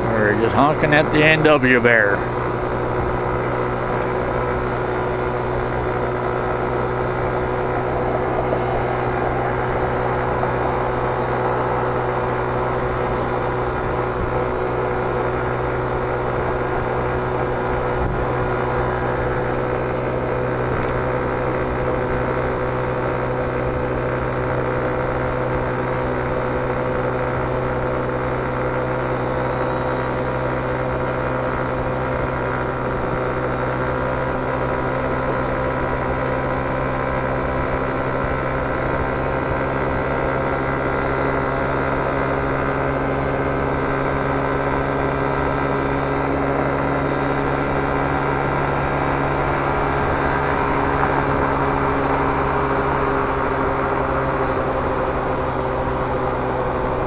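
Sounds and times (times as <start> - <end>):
scooter engine humming: 0.0 - 57.0
wind and road rumble: 0.0 - 57.0.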